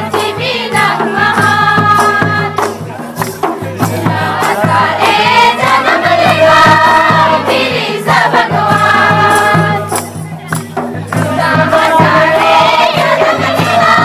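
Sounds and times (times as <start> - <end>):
folk dance music beat: 0.0 - 14.0
rattling percussion: 0.0 - 14.0
voices singing together: 0.0 - 14.0.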